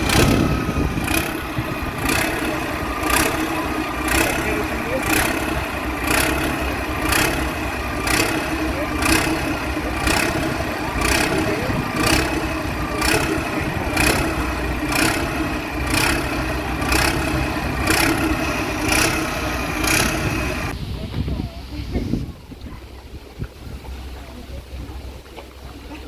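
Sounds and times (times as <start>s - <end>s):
engine running with pulse: 0.0s - 21.9s.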